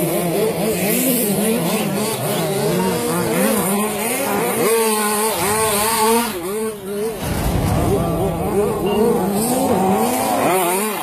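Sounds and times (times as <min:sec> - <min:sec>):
rc truck engines revving: 0:00.0 - 0:11.0.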